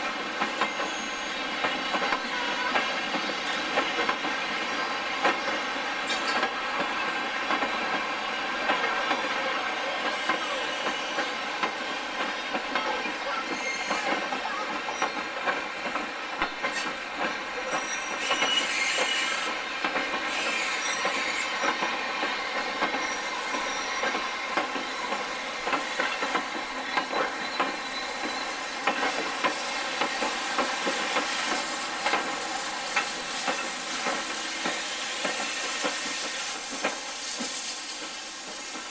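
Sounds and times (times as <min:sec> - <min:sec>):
train droning on rails: 0:00.0 - 0:38.9.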